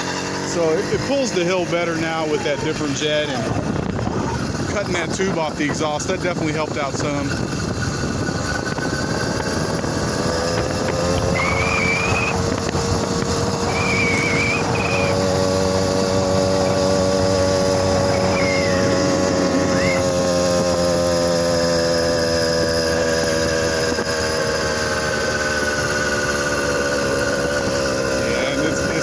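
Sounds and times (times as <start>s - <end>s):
two-stroke engine running: 0.0s - 29.0s.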